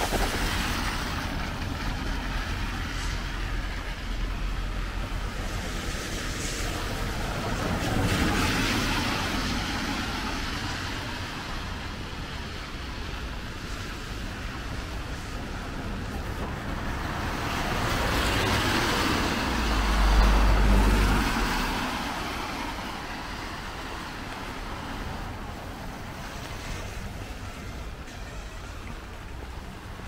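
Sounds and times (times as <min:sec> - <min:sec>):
traffic noise: 0:00.0 - 0:30.0
tyres hissing on wet road: 0:00.0 - 0:30.0.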